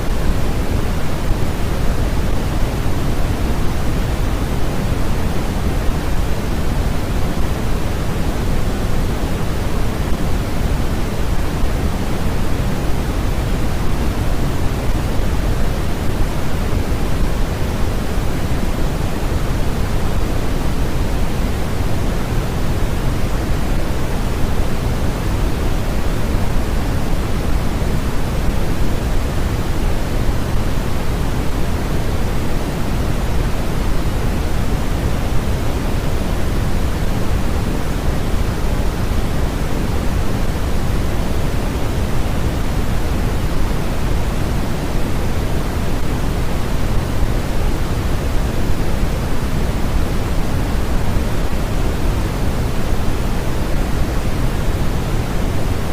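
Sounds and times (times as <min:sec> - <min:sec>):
deep steady noise hiss: 0:00.0 - 0:55.9.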